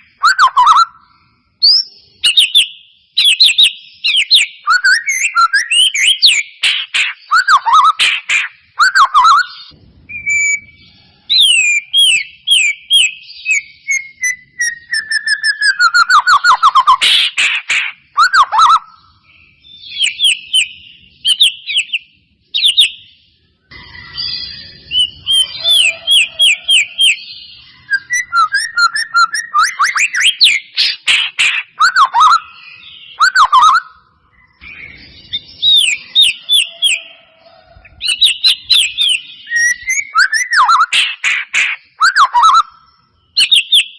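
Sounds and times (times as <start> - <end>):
bird singing whistled song: 0.0 - 43.9.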